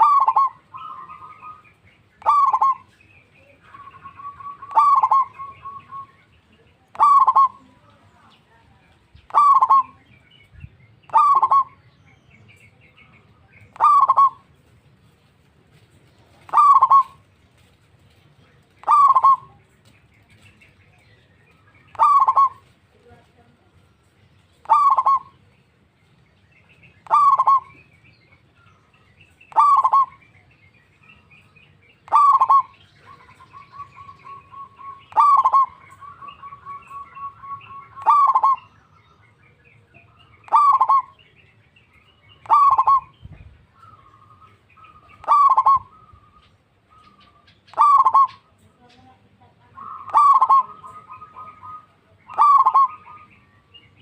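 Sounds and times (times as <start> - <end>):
dove calling: 0.0 - 54.0.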